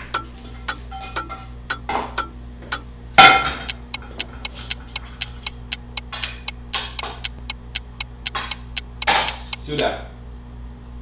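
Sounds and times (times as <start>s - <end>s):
clock ticking: 0.0s - 9.9s.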